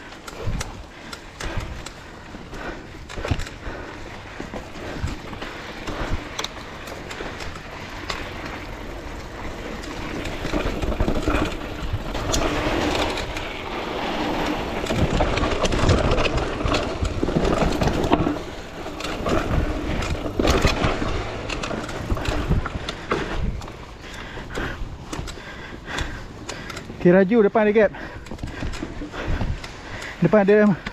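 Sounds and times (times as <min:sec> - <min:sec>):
bike knocking and rattling: 0:00.0 - 0:30.9
tyres crunching over dirt and rocks: 0:00.0 - 0:30.9.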